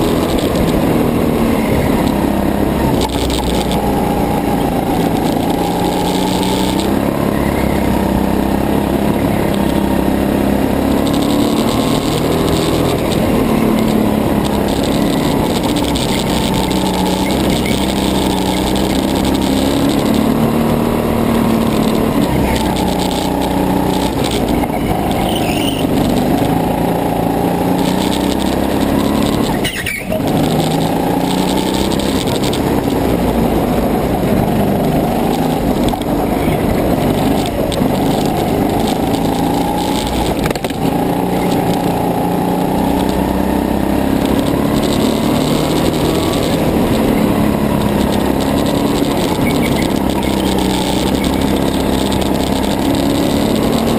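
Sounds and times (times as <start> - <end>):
chassis vibration: 0.0 - 53.9
go-kart engine revving: 0.0 - 53.9.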